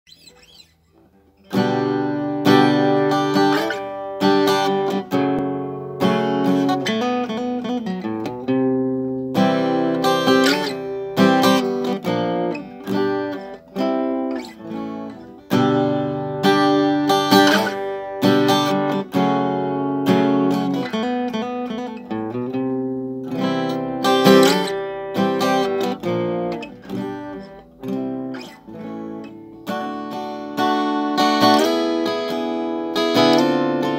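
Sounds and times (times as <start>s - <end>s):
acoustic guitar strumming chords: 0.1s - 33.9s.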